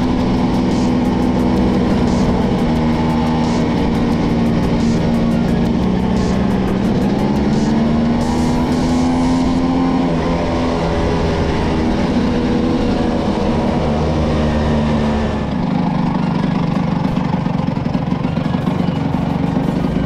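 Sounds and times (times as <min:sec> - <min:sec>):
small two-stroke engine running: 0:00.0 - 0:20.0.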